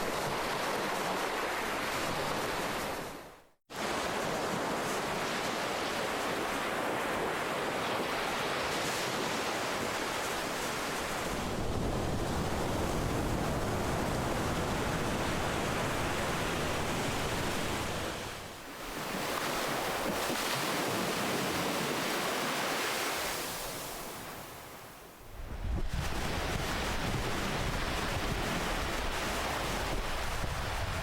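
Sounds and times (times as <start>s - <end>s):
ocean waves breaking: 0.0s - 25.2s.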